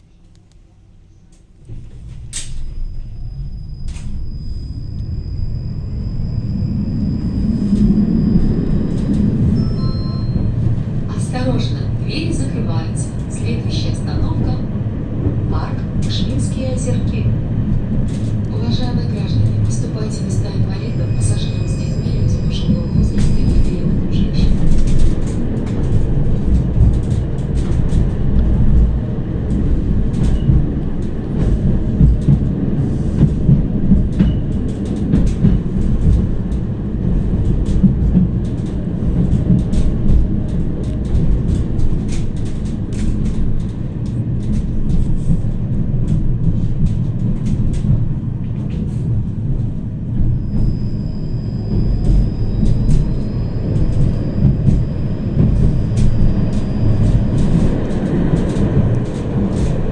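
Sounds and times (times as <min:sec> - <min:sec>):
tram rumbling on rails: 0:00.0 - 0:59.9
rail clicks: 0:01.2 - 0:59.9.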